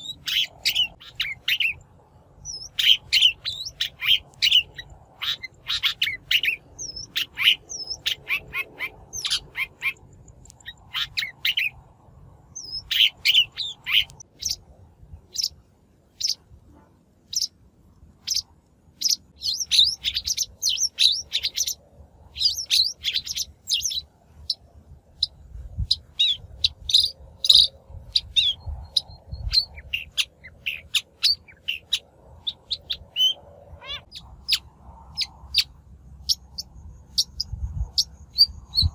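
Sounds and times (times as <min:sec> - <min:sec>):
bird scratchy chirps and calls: 0:00.0 - 0:11.9, 0:12.6 - 0:14.6, 0:15.2 - 0:16.5, 0:17.3 - 0:17.6, 0:18.2 - 0:38.9.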